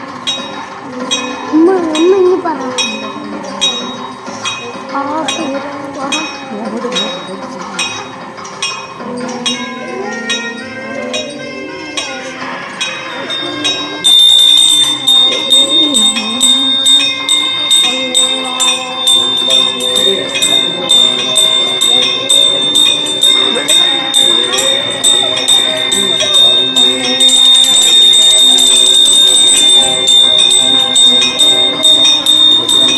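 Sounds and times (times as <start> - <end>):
people's voices: 0.0 - 32.9
temple bell ringing: 0.0 - 32.9.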